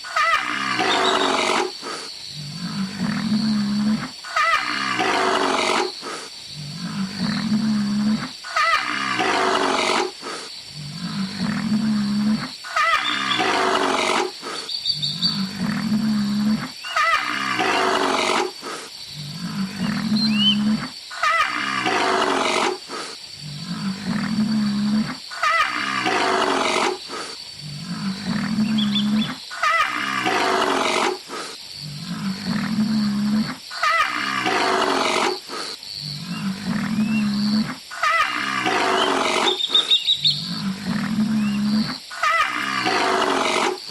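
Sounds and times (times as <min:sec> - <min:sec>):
large wild animal calling: 0:00.0 - 0:06.0, 0:06.6 - 0:10.2, 0:10.8 - 0:18.6, 0:19.2 - 0:22.8, 0:23.4 - 0:35.4, 0:36.2 - 0:43.9.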